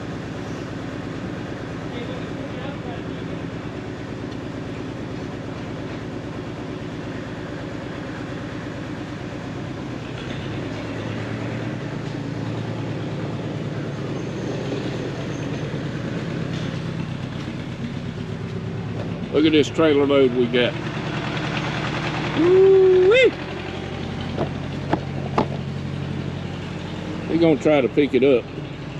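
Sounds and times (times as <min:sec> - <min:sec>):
vehicle engine running with rattling: 0:00.0 - 0:28.9.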